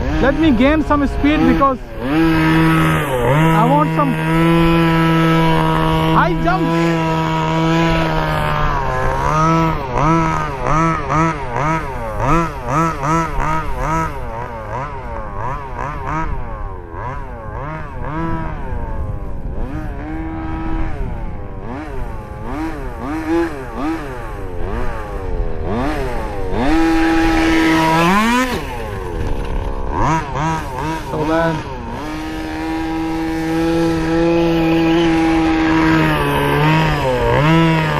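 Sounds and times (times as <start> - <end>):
small two-stroke engine revving: 0.0 - 37.9.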